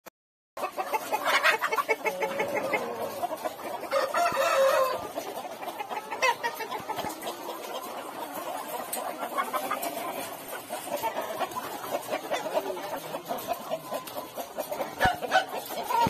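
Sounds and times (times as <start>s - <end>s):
chickens clucking: 0.6s - 16.0s.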